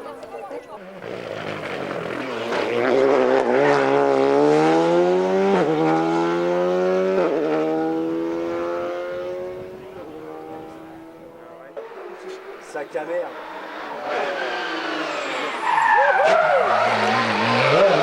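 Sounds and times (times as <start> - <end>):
engine upshifts: 0.0 - 18.0
rally car accelerating past: 1.0 - 15.6, 16.3 - 18.0.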